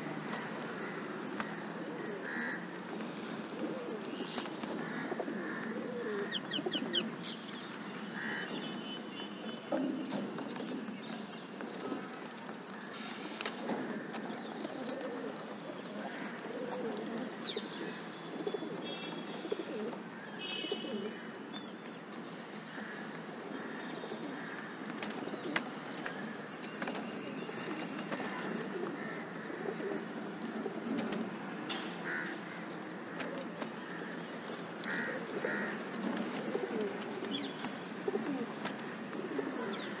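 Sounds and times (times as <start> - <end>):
pigeons cooing: 0.0 - 7.2, 12.9 - 21.3, 22.7 - 40.0.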